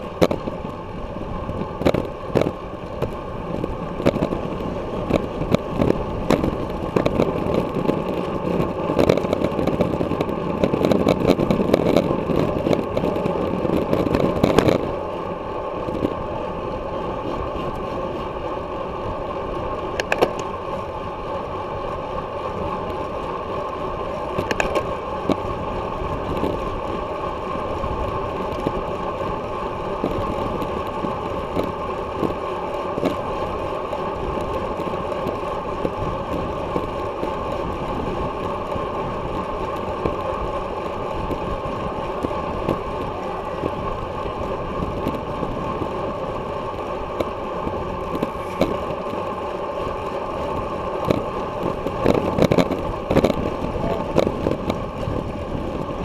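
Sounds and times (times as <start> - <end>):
road noise: 0.0 - 56.0
wind rushing over microphone: 0.0 - 56.0.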